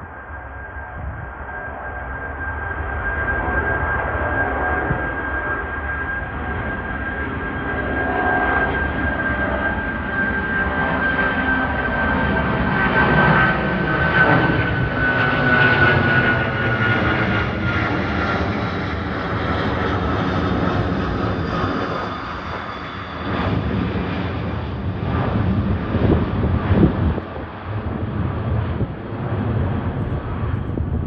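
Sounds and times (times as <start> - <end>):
jet engines roaring with high whine: 0.0 - 31.0.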